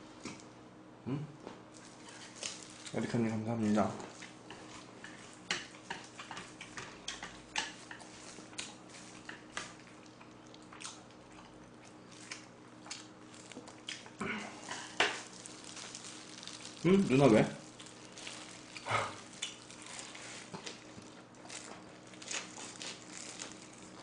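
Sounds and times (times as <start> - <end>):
chewing and lip-smacking: 4.0 - 16.9, 17.6 - 24.0.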